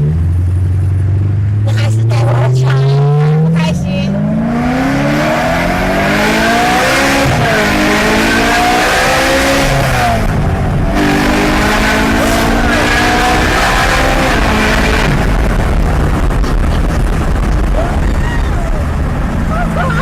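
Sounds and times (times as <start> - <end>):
car engine revving hard: 1.7 - 17.8.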